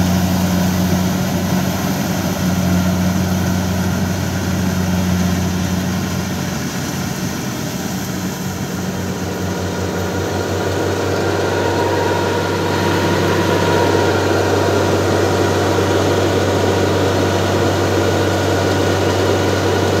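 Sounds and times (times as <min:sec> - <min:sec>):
combine harvester engine: 0:00.0 - 0:20.0
tractor engine: 0:00.0 - 0:20.0.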